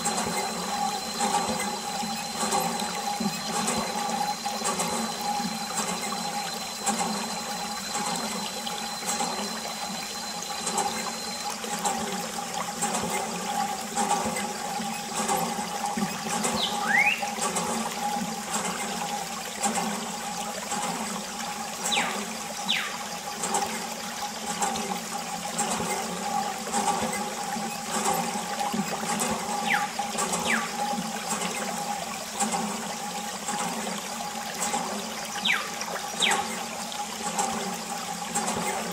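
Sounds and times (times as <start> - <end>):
water jet spraying and splashing: 0.0 - 38.9.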